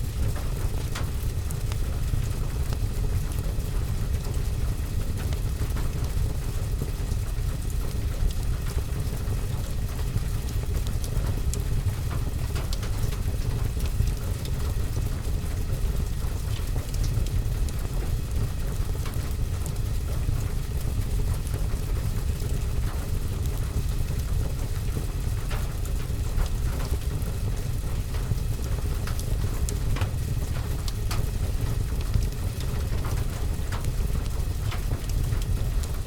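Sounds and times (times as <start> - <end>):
rain on a window and roof: 0.0 - 36.0
fire crackling: 6.7 - 36.0.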